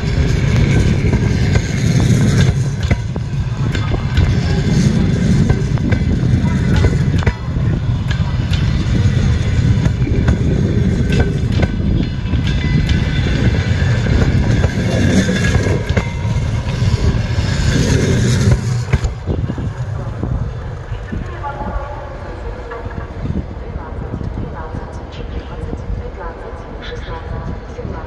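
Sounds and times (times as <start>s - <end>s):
clicks and knocks of train: 0.0s - 28.0s
train wheels rumbling on rails: 0.0s - 28.0s.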